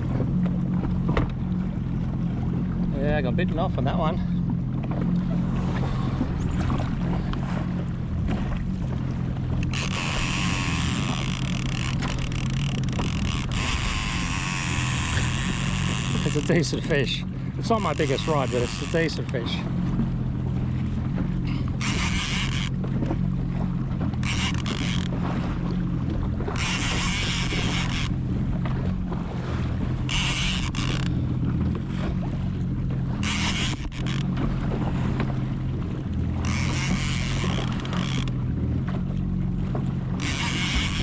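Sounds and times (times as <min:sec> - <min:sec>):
jet ski engine idling: 0:00.0 - 0:41.0.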